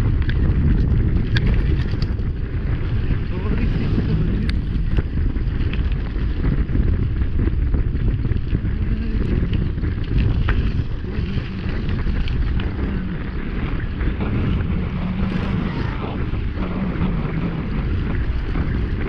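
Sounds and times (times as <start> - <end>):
tyre rumble on rough road: 0.0 - 19.0
wind buffeting microphone: 0.0 - 19.0.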